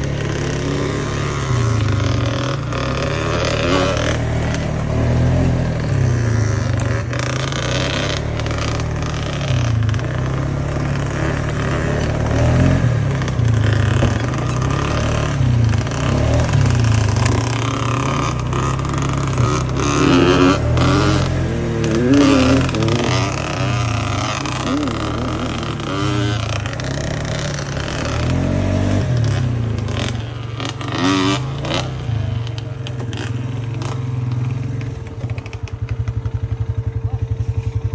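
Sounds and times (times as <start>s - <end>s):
vehicle engine revving: 0.0s - 37.9s.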